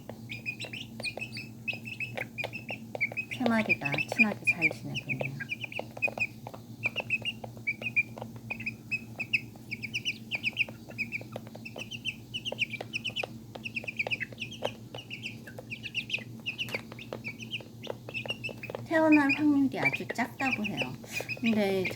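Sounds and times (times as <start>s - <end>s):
chicks peeping: 0.0s - 21.9s
sharp taps: 0.0s - 21.9s
steady low hum: 0.0s - 21.9s.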